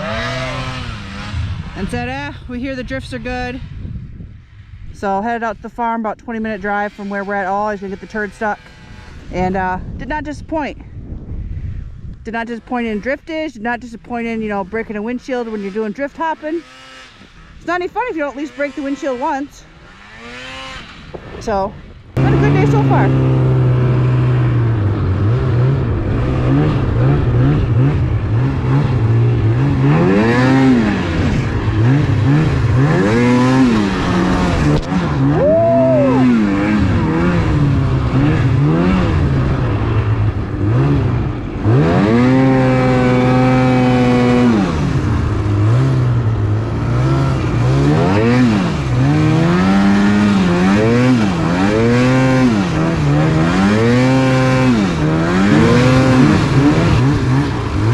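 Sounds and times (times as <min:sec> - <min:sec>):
snowmobile engine revving: 0:00.0 - 0:03.6, 0:05.0 - 0:10.6, 0:12.3 - 0:57.9.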